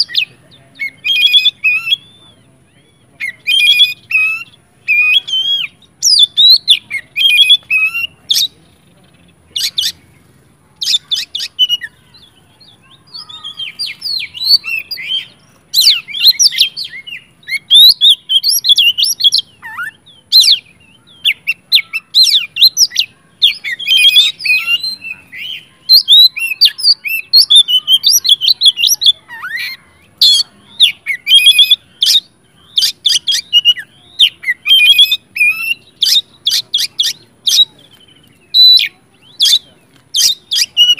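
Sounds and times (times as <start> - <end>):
bird singing loud varied song: 0.0 - 40.9.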